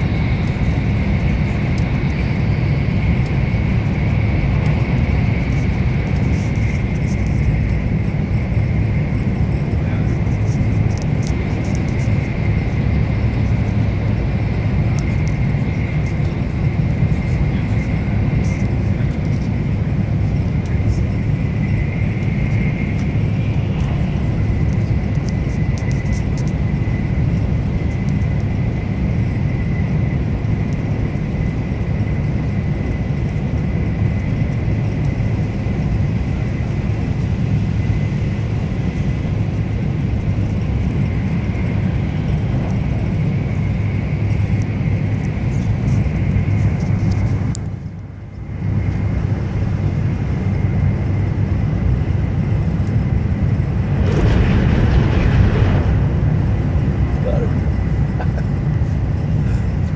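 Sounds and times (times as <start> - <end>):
train interior rumble: 0.0 - 59.9.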